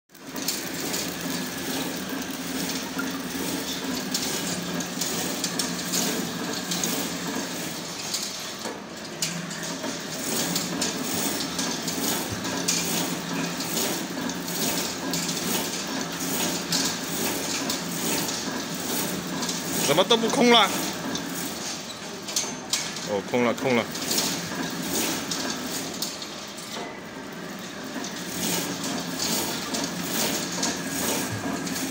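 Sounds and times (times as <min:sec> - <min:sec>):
packing machine hum: 0:00.1 - 0:31.9
plastic frames clattering on conveyor: 0:00.2 - 0:26.9, 0:27.5 - 0:31.9.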